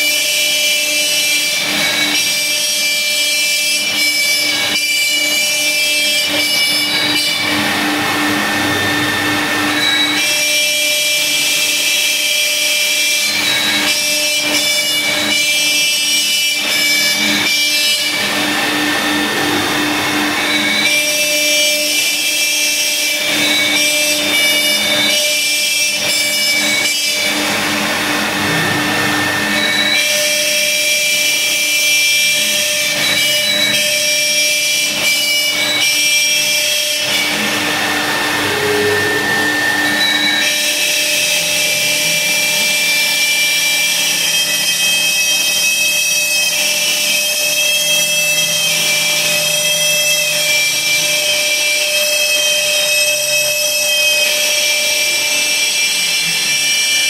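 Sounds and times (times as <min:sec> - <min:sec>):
router bit carving wood: 0:00.0 - 0:57.0
router spindle whining: 0:00.0 - 0:57.0.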